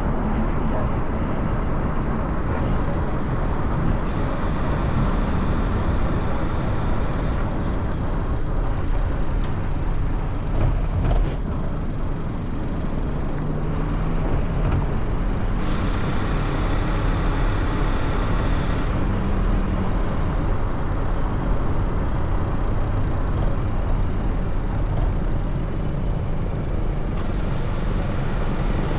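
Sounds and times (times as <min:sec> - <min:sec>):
car road and engine noise: 0:00.0 - 0:28.9.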